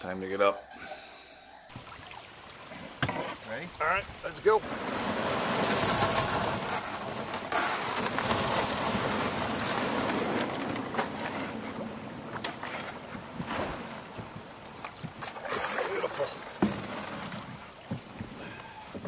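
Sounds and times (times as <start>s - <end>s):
water lapping along canoe hull: 1.7s - 19.0s.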